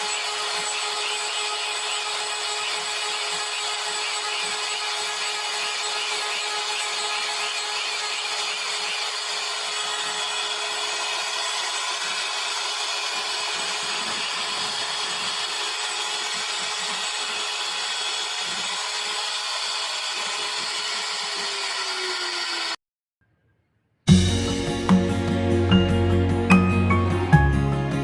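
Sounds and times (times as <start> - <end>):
router spindle cutting wood: 0.0 - 22.8.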